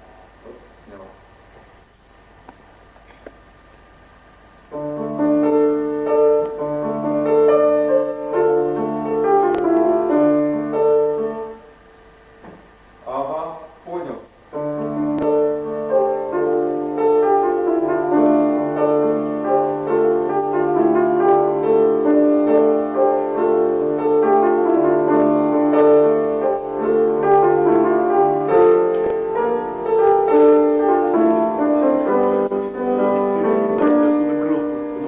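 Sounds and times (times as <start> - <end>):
keyboard slow melody: 4.8 - 12.4, 14.6 - 35.0.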